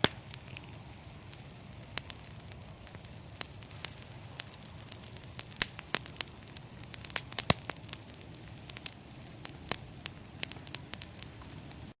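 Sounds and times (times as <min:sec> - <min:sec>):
fire popping and snapping: 0:00.0 - 0:12.0
flames hissing: 0:00.0 - 0:12.0.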